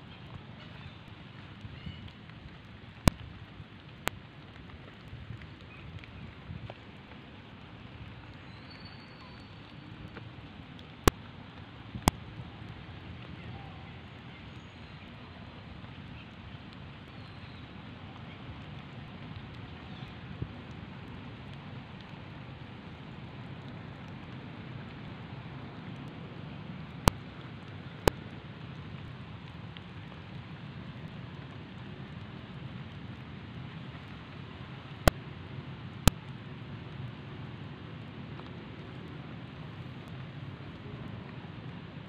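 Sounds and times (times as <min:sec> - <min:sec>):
outdoor background hiss: 0:00.0 - 0:42.0.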